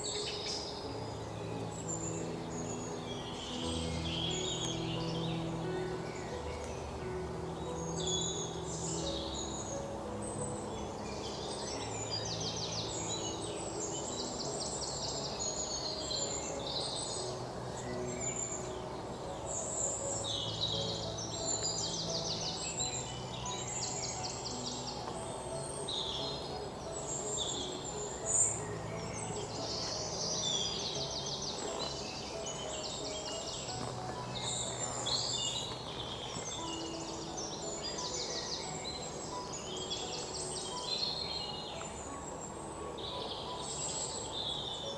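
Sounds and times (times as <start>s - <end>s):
soft slow instrumental music: 0.0s - 44.9s
songbirds singing and chirping: 0.0s - 44.9s.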